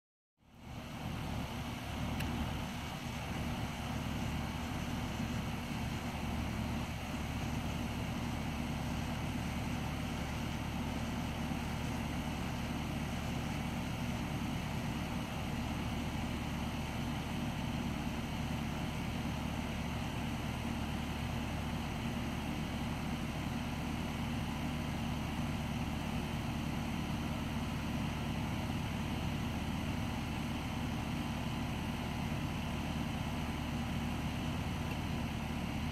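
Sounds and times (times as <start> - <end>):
antenna rotator motors humming: 0.5 - 35.9.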